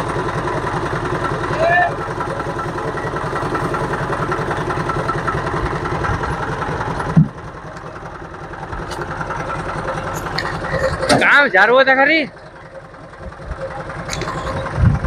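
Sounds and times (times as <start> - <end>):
engine running low throb: 0.0 - 15.0.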